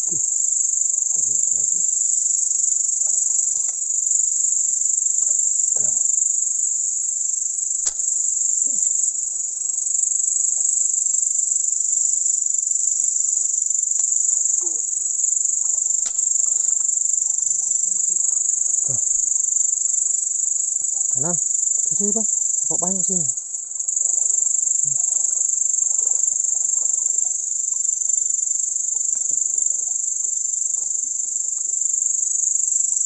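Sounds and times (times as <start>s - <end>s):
night insects chorus: 0.0s - 33.0s.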